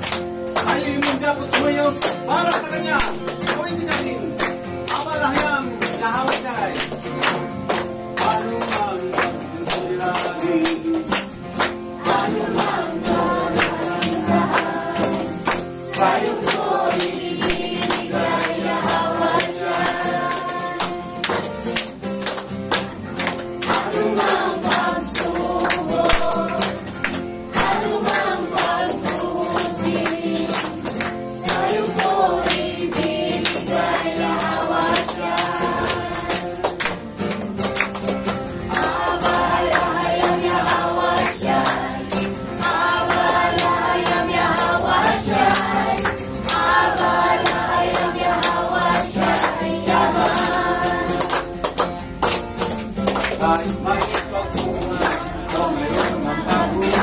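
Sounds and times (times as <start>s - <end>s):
congregation singing: 0.0s - 37.8s, 38.4s - 52.4s, 53.0s - 57.0s
hands clapping in time: 0.0s - 57.0s.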